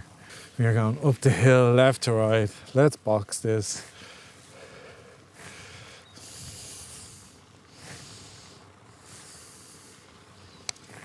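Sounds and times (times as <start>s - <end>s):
soft hissing: 0.0s - 11.0s.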